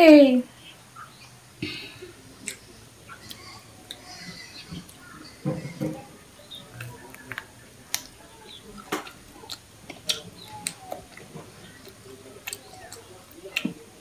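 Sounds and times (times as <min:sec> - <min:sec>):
chewing clicks and wet smacks: 0:02.4 - 0:14.0.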